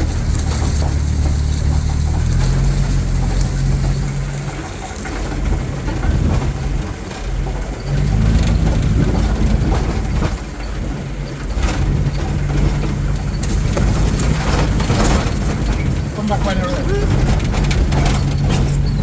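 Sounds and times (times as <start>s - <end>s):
road rumble: 0.0s - 19.0s
vehicle engine hum: 0.0s - 19.0s.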